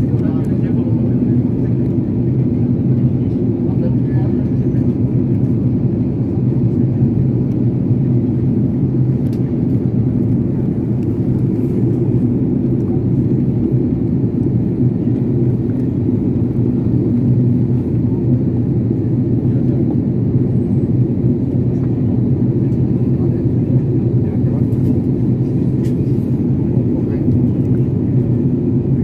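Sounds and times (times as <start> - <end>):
jet engine cabin drone: 0.0 - 29.0.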